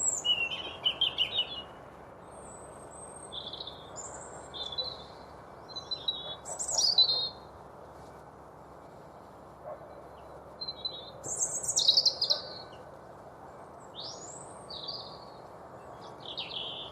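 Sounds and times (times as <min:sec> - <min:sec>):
robin singing: 0:00.0 - 0:07.6, 0:09.9 - 0:16.9.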